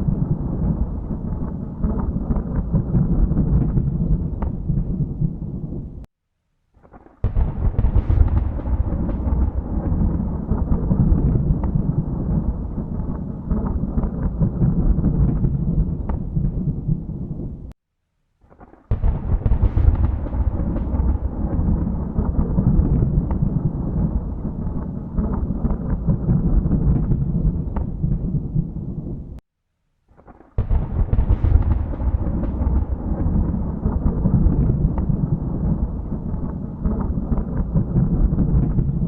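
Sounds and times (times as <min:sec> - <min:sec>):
thunder rumbling: 0:00.0 - 0:06.1, 0:07.0 - 0:17.7, 0:18.9 - 0:29.4, 0:30.6 - 0:39.0.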